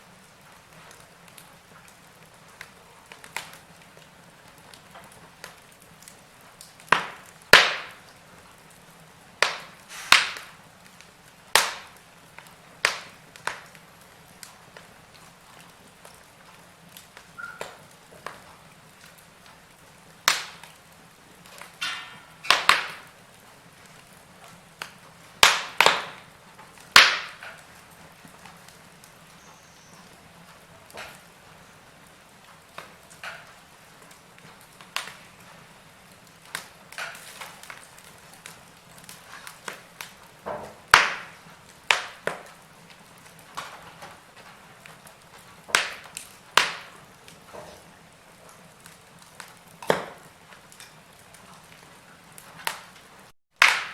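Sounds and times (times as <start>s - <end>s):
faint steady hiss: 0.0s - 53.9s
wood fire crackling: 0.0s - 53.9s.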